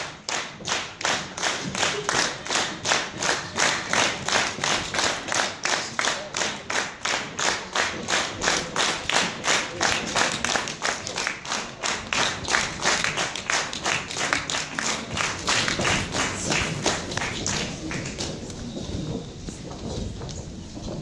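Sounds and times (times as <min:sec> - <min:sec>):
audience clapping in rhythm: 0:00.0 - 0:20.2.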